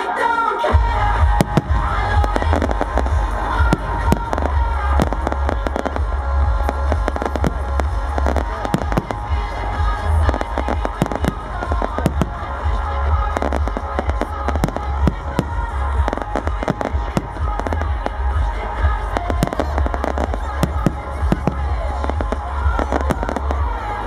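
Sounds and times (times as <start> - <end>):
music playing: 0.0 - 24.0
fireworks bangs and crackling: 0.8 - 24.0.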